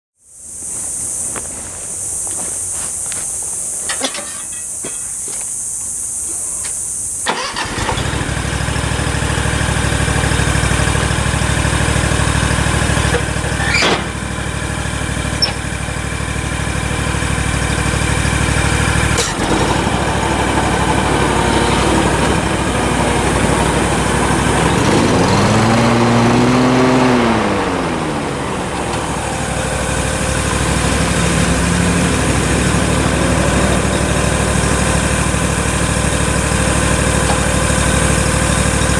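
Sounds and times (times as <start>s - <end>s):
mower engine starting and running: 7.2s - 38.9s.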